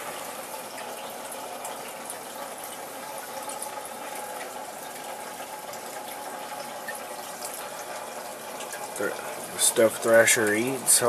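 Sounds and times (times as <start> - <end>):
aquarium water trickling: 0.0 - 11.0.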